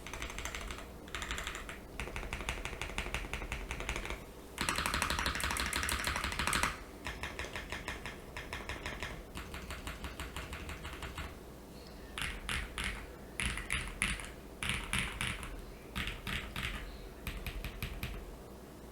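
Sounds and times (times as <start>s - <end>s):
mechanical keyboard typing: 0.0s - 11.4s, 12.2s - 18.2s.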